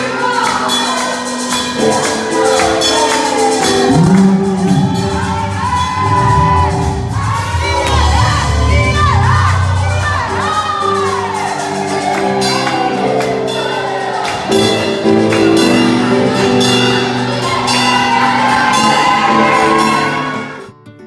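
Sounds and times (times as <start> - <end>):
drum or tambourine beat: 0.0 - 20.6
held instrumental chords: 0.0 - 20.7
voices singing: 0.0 - 20.7.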